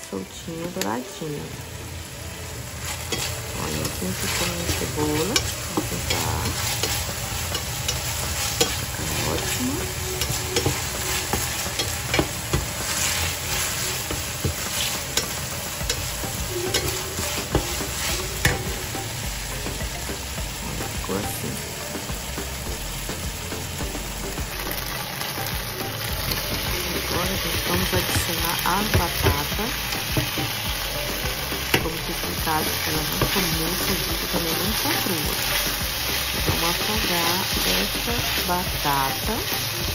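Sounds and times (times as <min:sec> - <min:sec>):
onions sizzling in a pan: 0:00.0 - 0:39.9.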